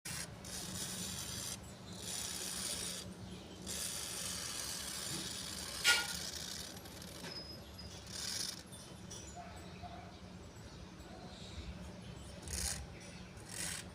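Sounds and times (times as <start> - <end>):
steady low hum: 0.1 - 13.9.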